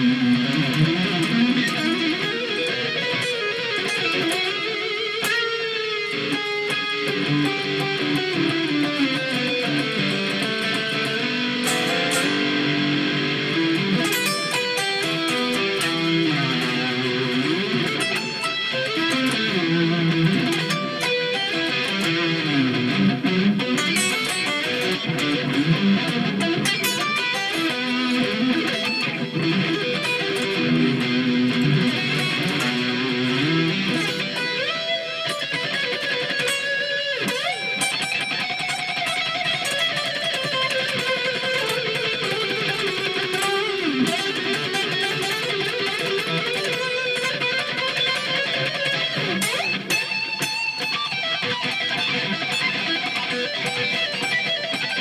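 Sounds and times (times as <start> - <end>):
electric guitar playing rock: 0.0 - 55.0.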